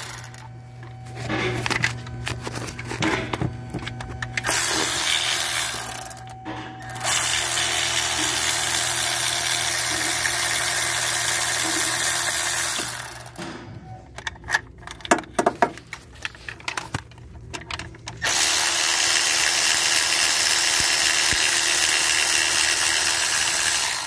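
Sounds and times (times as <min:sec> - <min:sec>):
power tool running: 0:00.0 - 0:13.5, 0:18.2 - 0:24.0.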